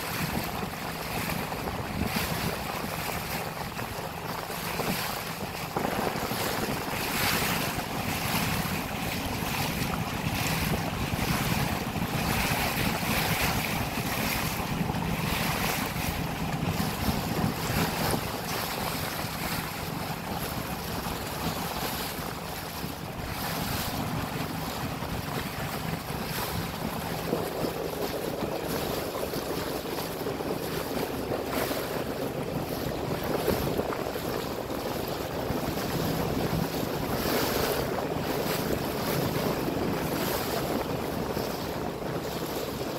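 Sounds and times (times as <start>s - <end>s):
boat engine humming: 0.0s - 42.9s
water rushing past hull: 0.0s - 42.9s
wind buffeting microphone: 0.0s - 42.9s.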